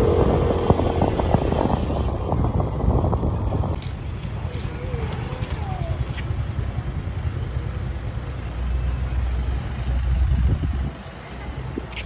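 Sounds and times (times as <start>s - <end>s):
wind rumble on microphone: 0.0s - 8.5s, 9.2s - 12.0s
motorcycle engine running: 0.0s - 10.9s.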